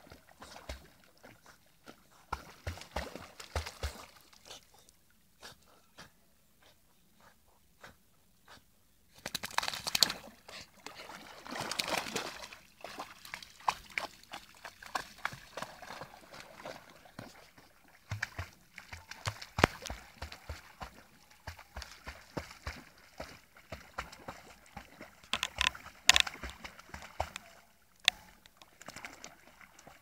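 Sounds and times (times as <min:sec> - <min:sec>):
dog splashing through water: 0:00.0 - 0:04.6, 0:09.2 - 0:30.0.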